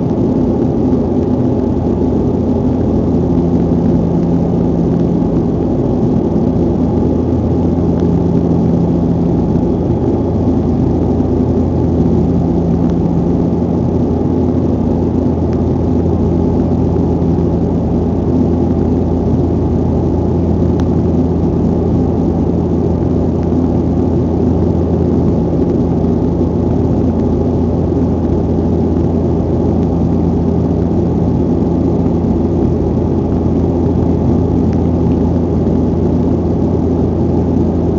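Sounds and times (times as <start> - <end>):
airliner engines droning: 0.0 - 37.9.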